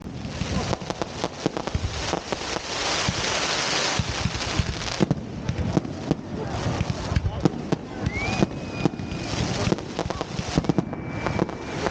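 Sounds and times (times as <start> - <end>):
fireworks crackling and popping: 0.0 - 11.9.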